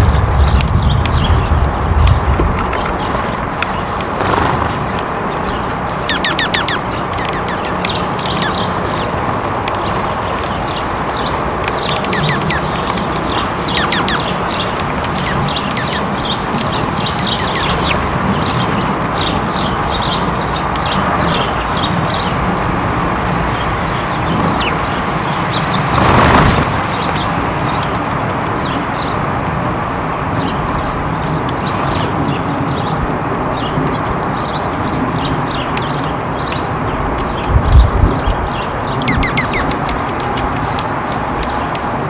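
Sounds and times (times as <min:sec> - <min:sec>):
small songbirds chirping: 0:00.0 - 0:42.0
steady background rush: 0:00.0 - 0:42.0.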